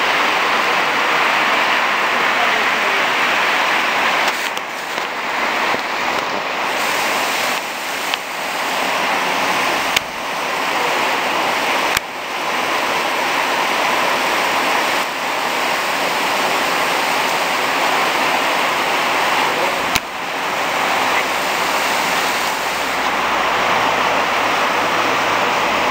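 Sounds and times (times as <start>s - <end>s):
torrential rain: 0.0s - 25.9s.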